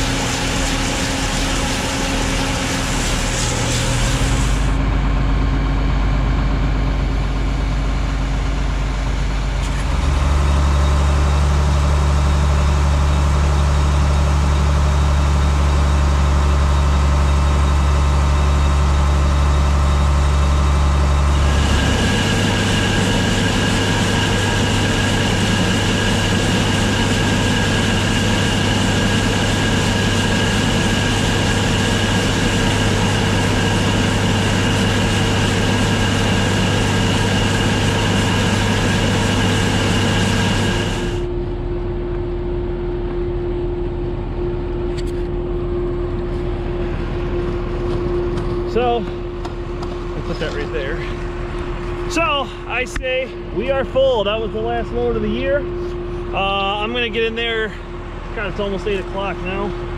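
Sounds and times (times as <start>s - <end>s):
diesel engines running: 0.0s - 59.9s
grain auger droning and whining: 0.0s - 59.9s.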